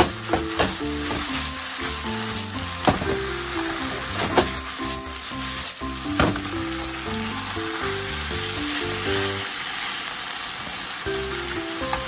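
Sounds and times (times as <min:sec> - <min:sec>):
background music melody: 0:00.0 - 0:09.7, 0:11.0 - 0:12.0
food sizzling in a frying pan: 0:00.0 - 0:12.0.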